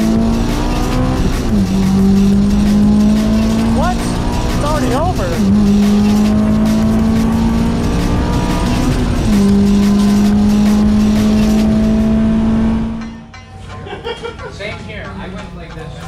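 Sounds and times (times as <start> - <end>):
car engine at high revs: 0.0 - 13.2.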